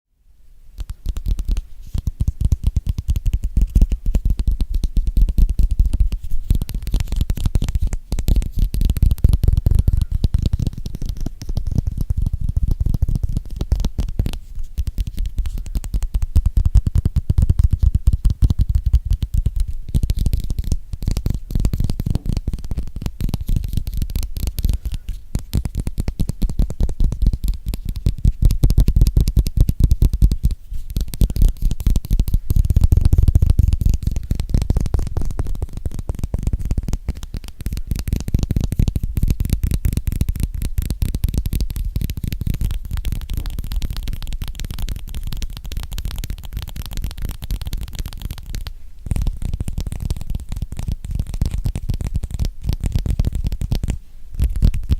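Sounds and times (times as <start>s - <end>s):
fast fingernail tapping: 0.8s - 54.9s.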